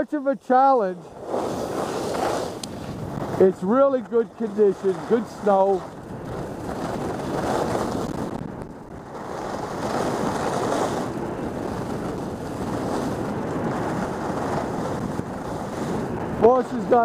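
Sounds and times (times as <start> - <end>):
skis carving over packed snow: 0.0 - 17.0
wind buffeting microphone: 0.0 - 17.0.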